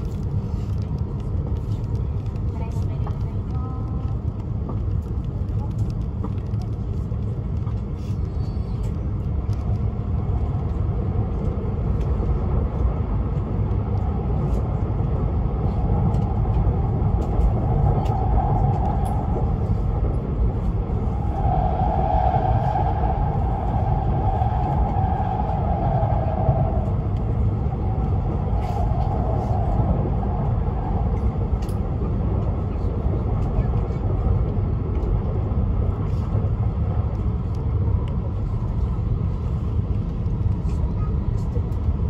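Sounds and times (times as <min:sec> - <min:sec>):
train running rumble: 0:00.0 - 0:42.0.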